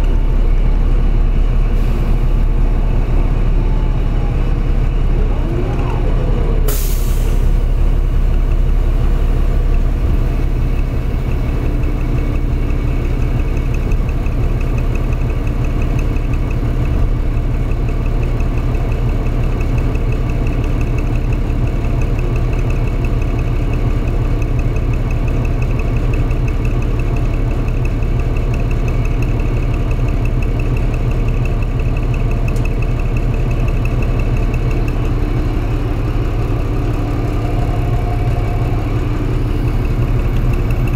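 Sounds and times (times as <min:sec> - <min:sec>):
bus diesel engine idling: 0:00.0 - 0:40.9.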